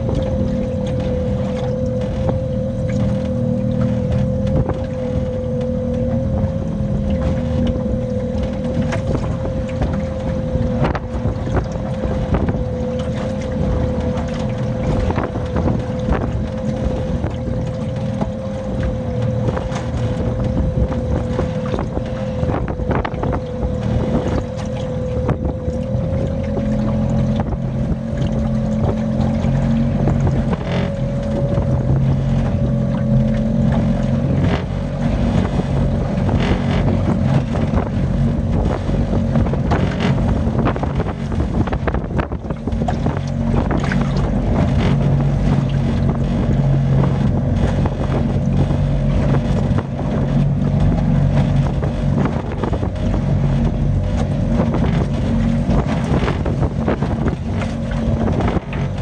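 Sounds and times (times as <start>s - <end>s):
motor drone with whine: 0.0s - 59.0s
wind buffeting microphone: 0.0s - 59.0s.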